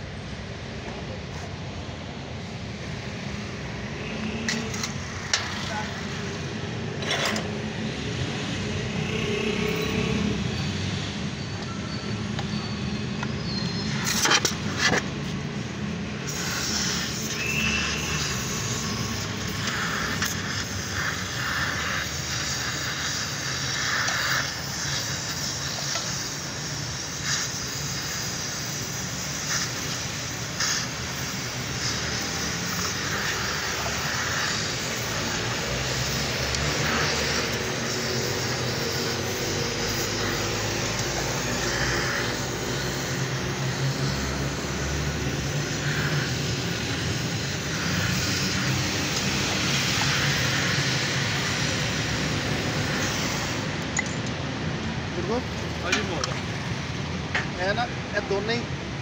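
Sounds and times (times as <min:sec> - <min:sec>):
welding torch hissing: 0:01.4 - 0:58.6.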